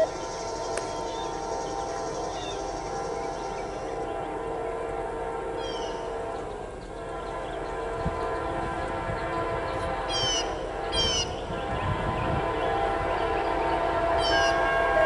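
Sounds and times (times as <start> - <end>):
distant locomotive air horn: 0.0 - 15.0.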